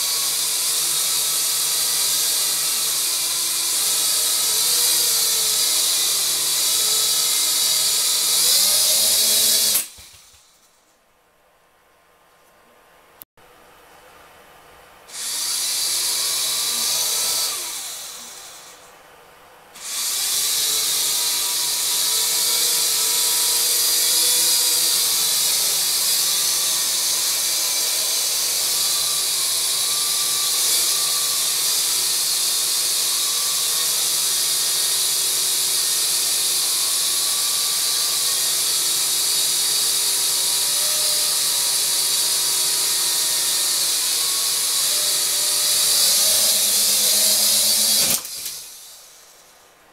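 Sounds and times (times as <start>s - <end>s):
toy quadcopter motors whining: 0.0s - 10.7s, 15.1s - 18.9s, 19.8s - 49.6s.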